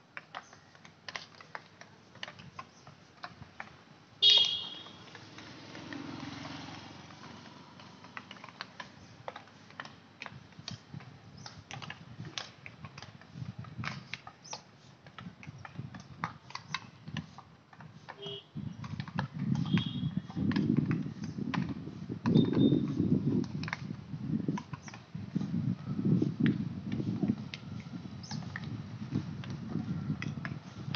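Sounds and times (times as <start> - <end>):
hockey sticks striking balls: 0.2 - 25.1.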